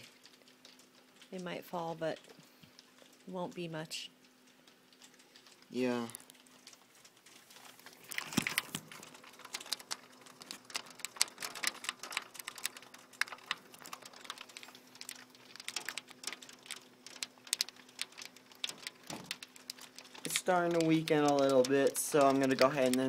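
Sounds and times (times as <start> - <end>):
hail and rain pattering: 0.0 - 23.0.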